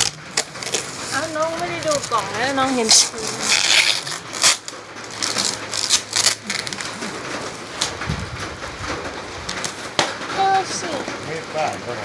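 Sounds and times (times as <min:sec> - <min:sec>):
packaging crinkling and clicking: 0:00.0 - 0:10.4.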